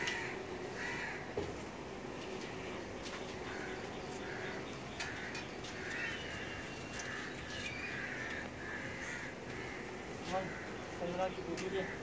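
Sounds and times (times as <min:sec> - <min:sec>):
crows cawing: 0:00.0 - 0:01.4, 0:02.5 - 0:12.0
steady background hiss: 0:00.0 - 0:12.0.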